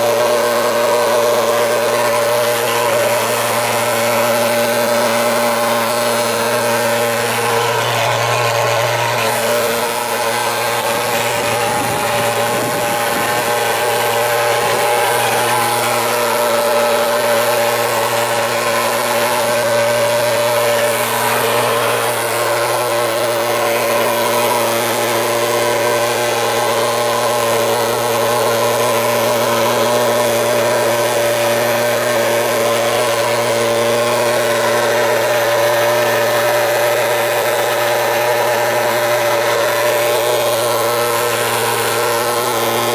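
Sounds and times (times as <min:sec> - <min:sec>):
pulse-jet engine drone: 0:00.0 - 0:42.9.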